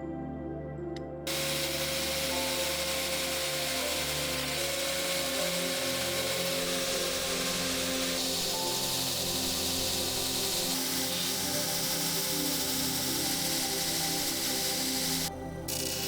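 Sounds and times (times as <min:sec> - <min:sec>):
background music: 0:00.0 - 0:16.0
power tool shaping wood: 0:01.3 - 0:16.0.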